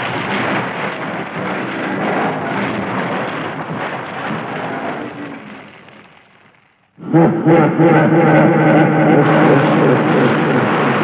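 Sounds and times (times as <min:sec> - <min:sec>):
barrage of explosions: 0:00.0 - 0:07.5, 0:09.1 - 0:11.0.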